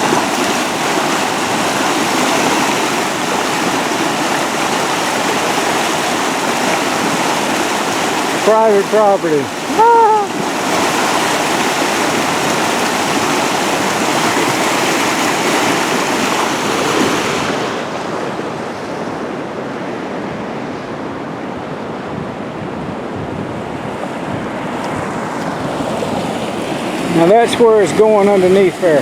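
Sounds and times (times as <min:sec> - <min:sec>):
floodwater rushing and churning: 0:00.0 - 0:29.0.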